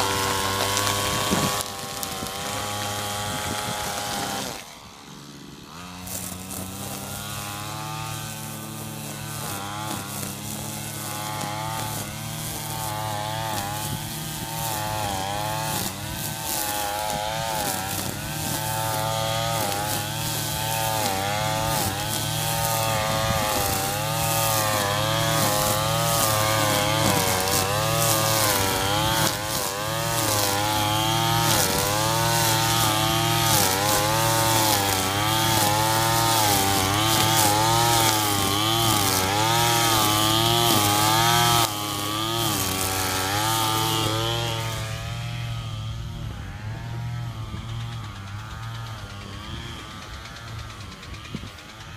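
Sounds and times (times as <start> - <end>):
string trimmer engine revving: 0.0 - 51.9.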